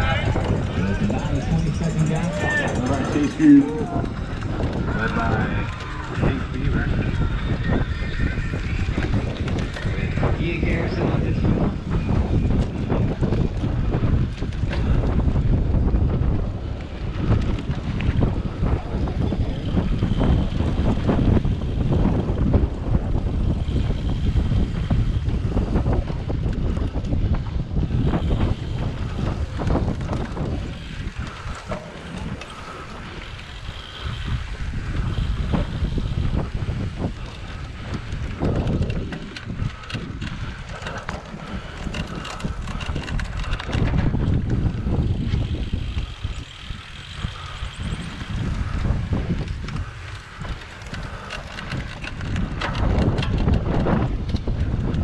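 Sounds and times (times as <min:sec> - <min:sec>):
bike rattling and knocking: 0:00.0 - 0:55.0
wind buffeting microphone: 0:00.0 - 0:55.0.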